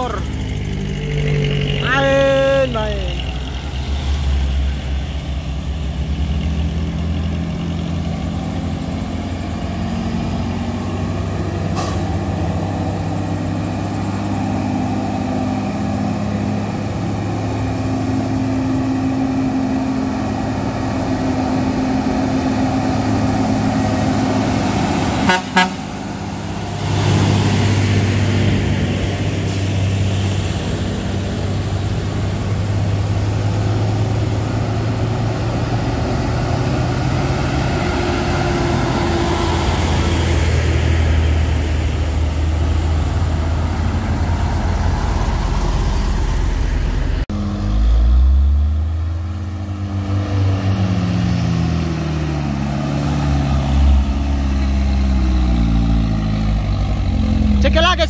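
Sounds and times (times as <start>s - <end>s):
heavy diesel truck approaching: 0.0s - 58.0s
truck engines droning uphill: 0.0s - 58.0s.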